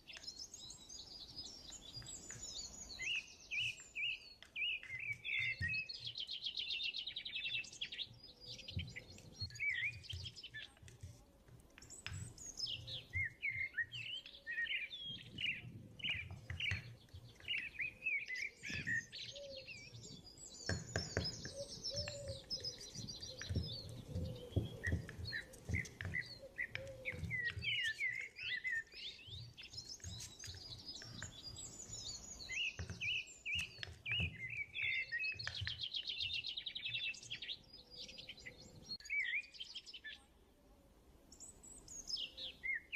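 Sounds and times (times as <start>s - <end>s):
small birds chirping: 0.0s - 40.6s, 41.2s - 42.9s.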